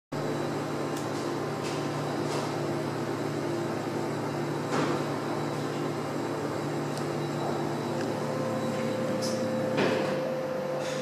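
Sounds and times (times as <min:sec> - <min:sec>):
freezer unit humming: 0:00.1 - 0:11.0.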